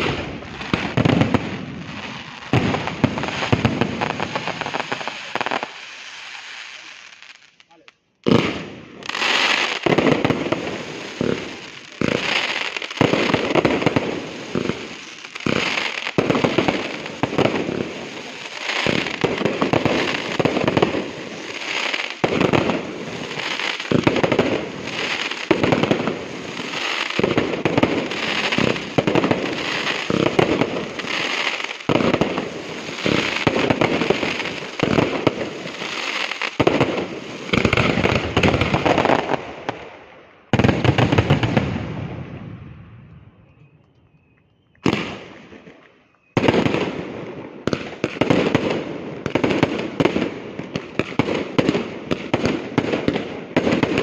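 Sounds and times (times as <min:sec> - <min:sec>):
fireworks bursts and bangs: 0:00.0 - 0:42.8, 0:44.8 - 0:54.0.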